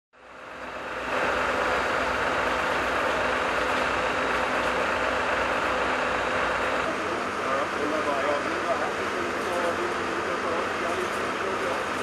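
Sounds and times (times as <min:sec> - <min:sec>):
vehicle engines idling: 0:00.2 - 0:12.0.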